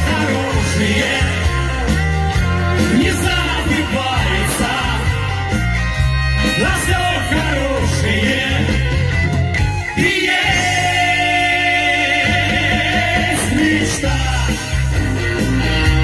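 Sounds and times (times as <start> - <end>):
rock-pop band playing: 0.0 - 16.0.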